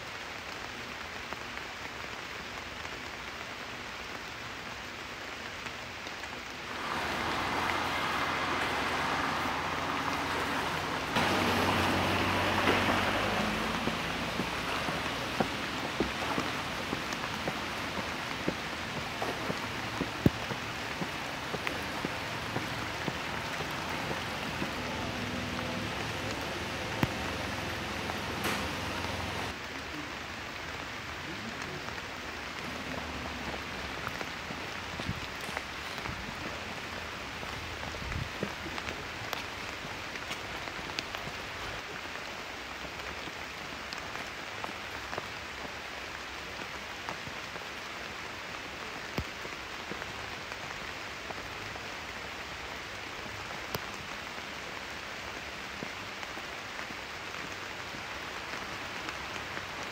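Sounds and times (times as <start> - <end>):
sharp ticks of raindrops: 0.0 - 59.9
steady rain hiss: 0.0 - 59.9.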